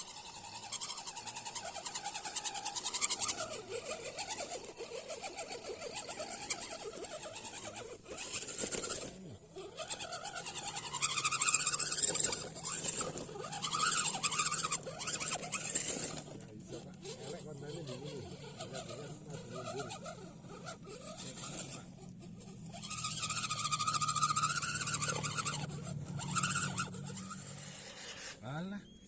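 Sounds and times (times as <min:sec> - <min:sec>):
toy car electric motor whining: 0:00.0 - 0:28.7.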